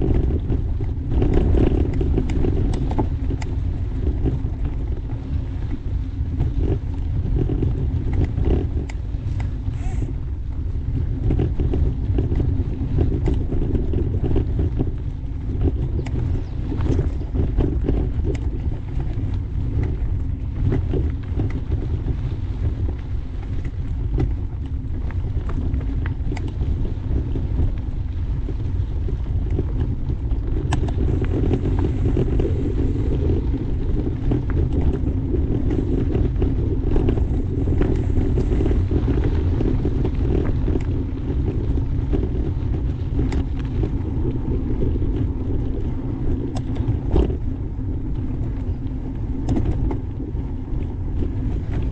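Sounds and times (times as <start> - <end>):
bike clicks: 0.0 - 51.9
bike tyres rumbling on dirt: 0.0 - 51.9.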